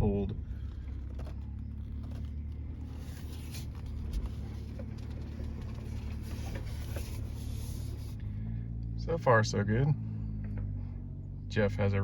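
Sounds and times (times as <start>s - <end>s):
low car engine rumble: 0.0s - 12.0s.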